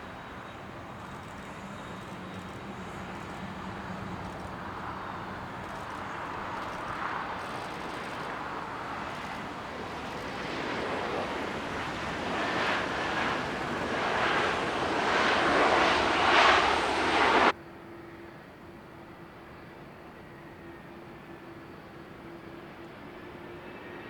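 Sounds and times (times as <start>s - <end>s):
jet airliner engines: 0.0s - 24.0s.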